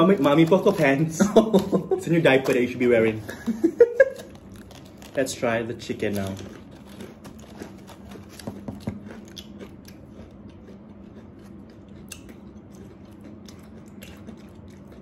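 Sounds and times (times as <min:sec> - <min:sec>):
chewing crispy food: 0:00.0 - 0:15.0.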